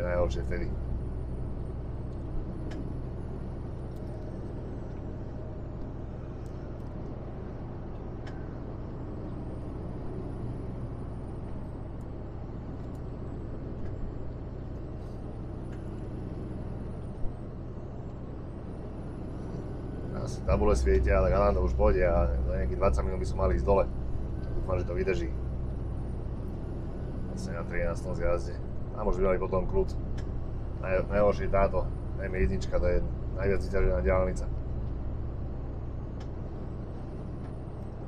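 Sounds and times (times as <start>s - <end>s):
truck engine and road drone: 0.0s - 38.0s.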